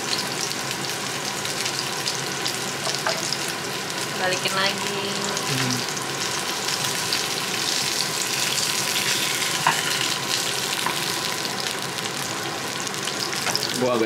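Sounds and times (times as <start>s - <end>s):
fish sizzling in a frying pan: 0.0s - 14.0s.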